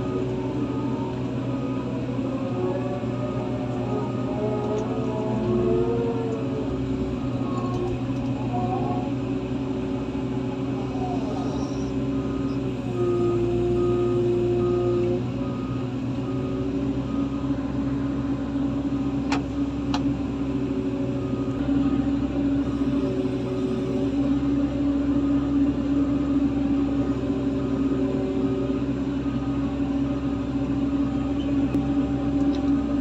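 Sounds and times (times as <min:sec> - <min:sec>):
heavy equipment diesel engines: 0:00.0 - 0:33.0.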